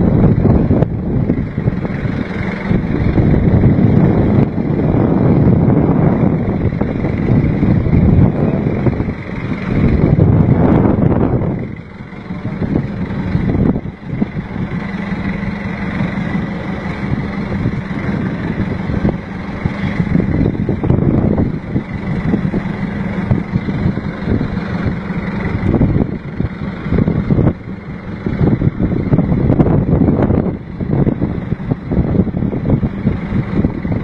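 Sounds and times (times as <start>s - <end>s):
boat engine running: 0.0s - 34.0s
wind on microphone: 0.0s - 34.0s.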